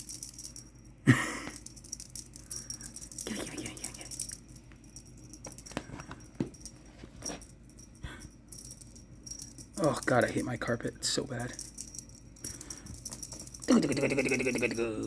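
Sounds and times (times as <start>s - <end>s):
cat toy rattling and jingling: 0.0s - 15.0s.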